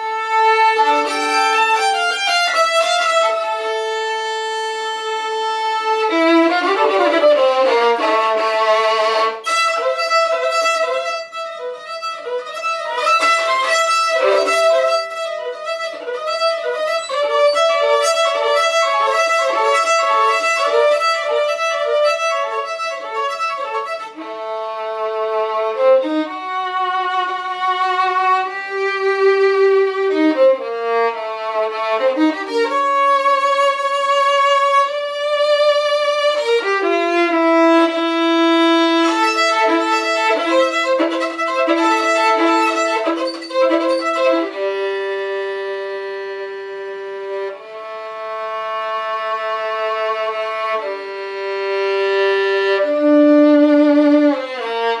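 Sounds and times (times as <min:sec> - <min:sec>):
solo violin bowed: 0:00.0 - 0:55.0.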